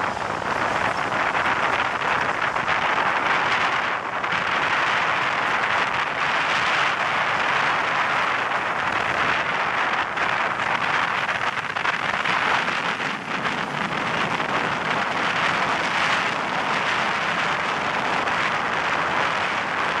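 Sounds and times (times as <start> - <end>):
train running noise: 0.0 - 20.0
wind rushing past microphone: 0.0 - 20.0.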